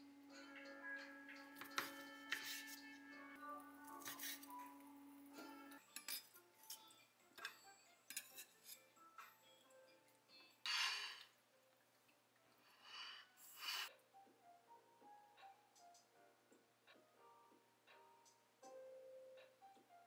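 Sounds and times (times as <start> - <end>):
soft background music: 0.0 - 20.0.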